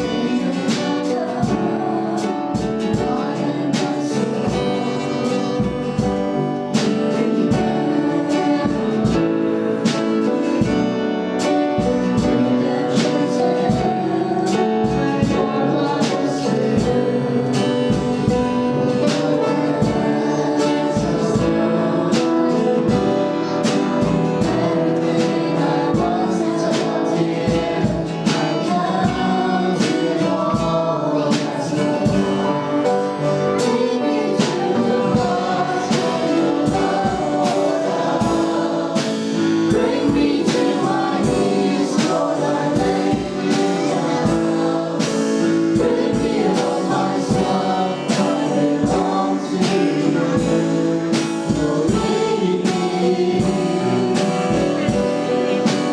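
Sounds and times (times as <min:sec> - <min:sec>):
group singing: 0:00.0 - 0:55.9
guitar: 0:00.0 - 0:55.9
steady drum beat: 0:00.0 - 0:55.9
worship band playing: 0:00.0 - 0:55.9.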